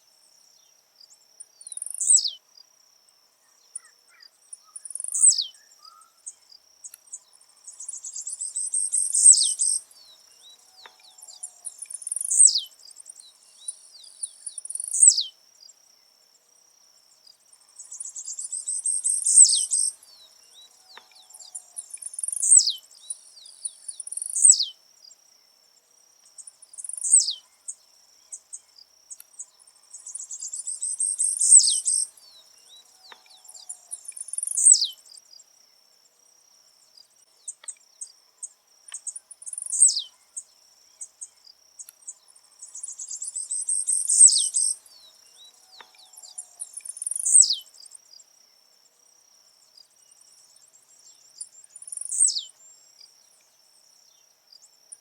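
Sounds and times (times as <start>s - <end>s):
bird buzzy song: 0.0s - 2.7s, 3.4s - 16.2s, 17.0s - 35.5s, 36.8s - 48.6s, 49.6s - 55.0s
faint insect trill: 0.0s - 55.0s.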